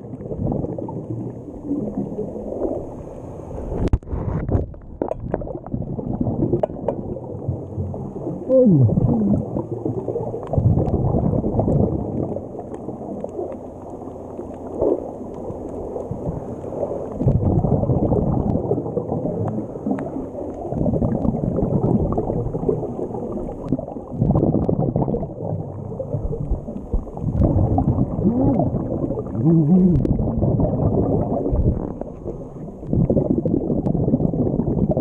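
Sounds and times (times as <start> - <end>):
underwater bubbling and gurgling: 0.0 - 35.0.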